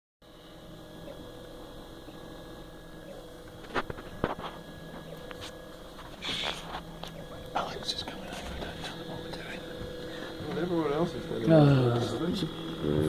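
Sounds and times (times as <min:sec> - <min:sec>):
printer motors whining: 0:00.3 - 0:13.0.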